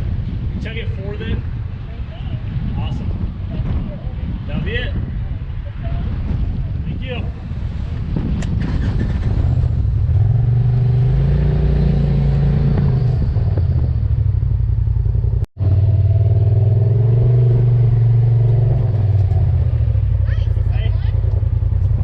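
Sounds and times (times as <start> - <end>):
engine running at low revs: 0.0 - 22.0.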